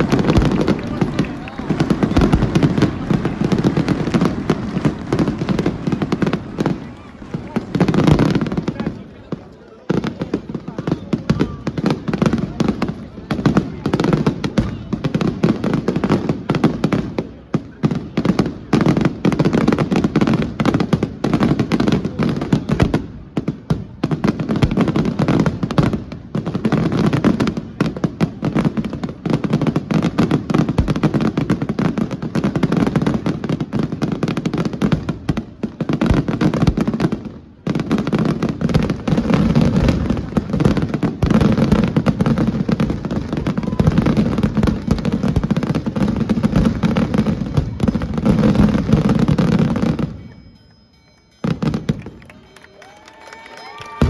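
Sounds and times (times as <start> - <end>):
firecracker and firework bangs: 0.0 - 50.5.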